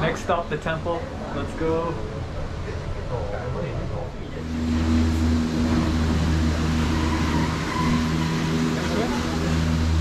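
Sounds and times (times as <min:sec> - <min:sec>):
car engine humming: 0:00.0 - 0:10.0
road noise: 0:00.0 - 0:10.0.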